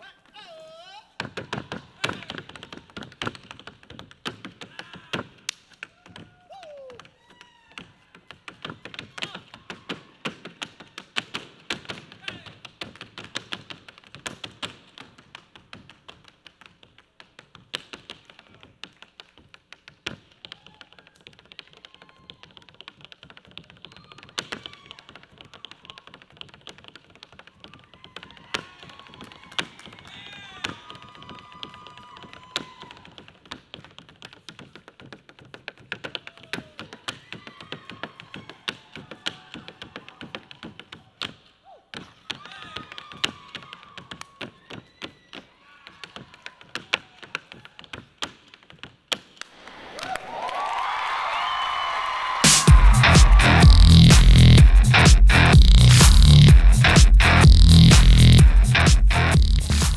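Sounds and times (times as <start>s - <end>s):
tap shoes on stage floor: 0.2s - 49.6s, 52.2s - 59.9s.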